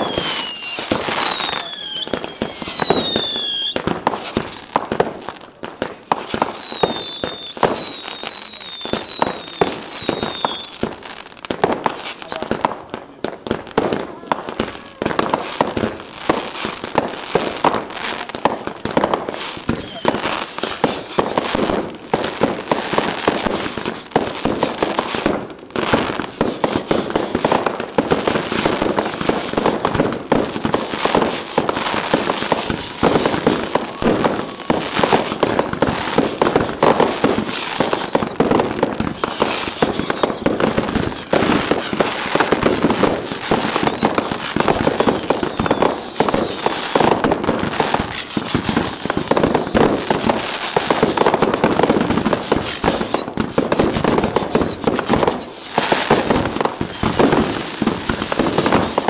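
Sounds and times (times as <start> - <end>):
falling firework whistle: 0.0 - 59.0
fireworks bangs and crackling: 0.0 - 59.0.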